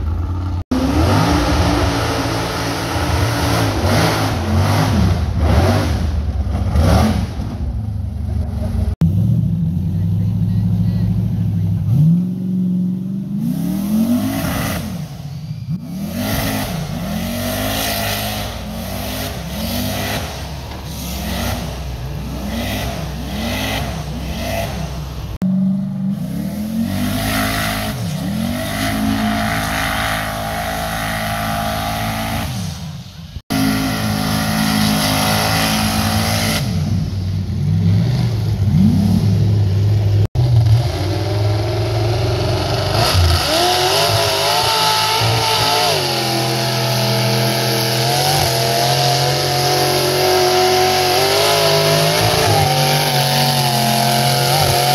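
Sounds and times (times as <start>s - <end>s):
buggy engine revving: 0.0s - 54.9s.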